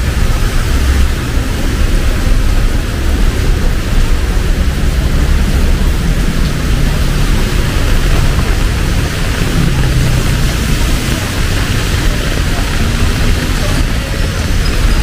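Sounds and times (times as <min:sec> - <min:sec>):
heavy rain pouring: 0:00.0 - 0:15.0
road traffic rumble: 0:00.0 - 0:15.0.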